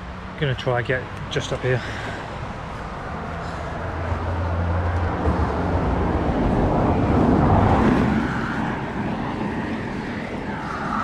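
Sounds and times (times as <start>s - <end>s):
low steady engine hum: 0.0s - 11.0s
vehicle passing by: 0.0s - 11.0s.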